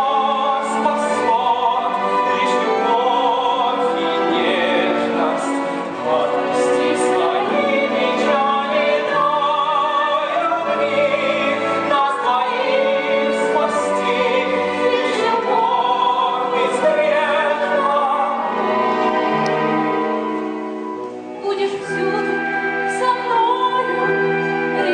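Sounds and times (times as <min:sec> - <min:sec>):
operatic singing with vibrato: 0:00.0 - 0:24.9
orchestral accompaniment: 0:00.0 - 0:24.9.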